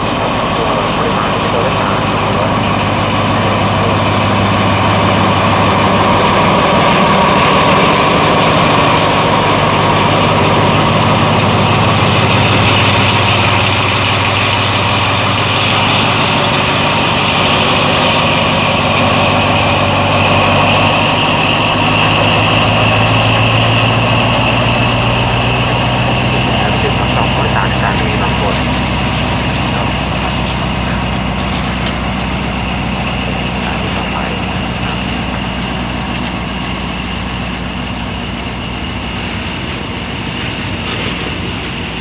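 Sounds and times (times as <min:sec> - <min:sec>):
diesel locomotive idling: 0:00.0 - 0:42.0.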